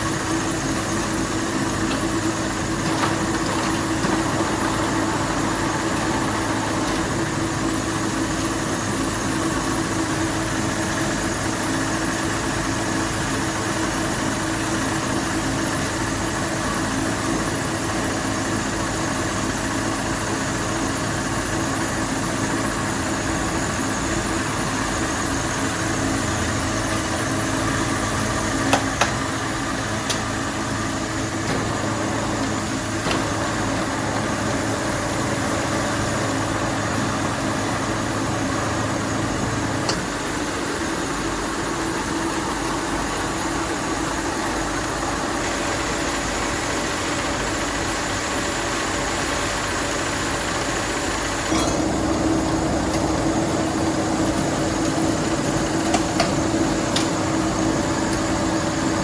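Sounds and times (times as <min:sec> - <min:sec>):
factory machinery humming: 0:00.0 - 0:59.0.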